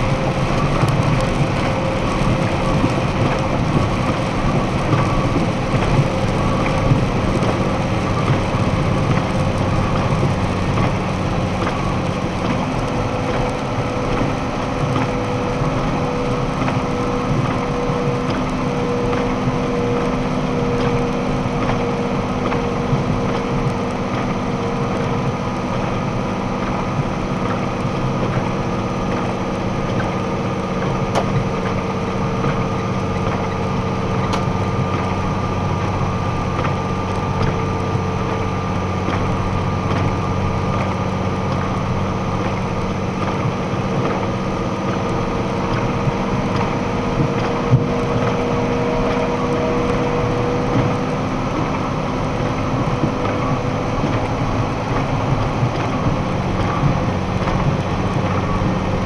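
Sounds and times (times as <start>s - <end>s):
truck engine and road noise: 0.0s - 59.0s.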